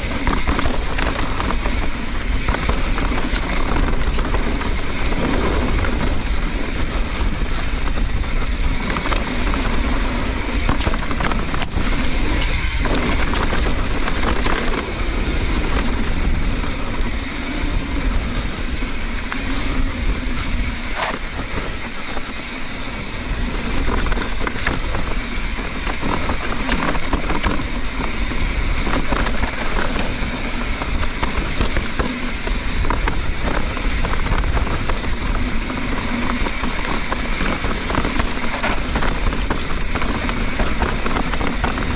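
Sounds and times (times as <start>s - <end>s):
bike tyres rolling on dirt: 0.0s - 41.9s
wind on microphone: 0.0s - 41.9s.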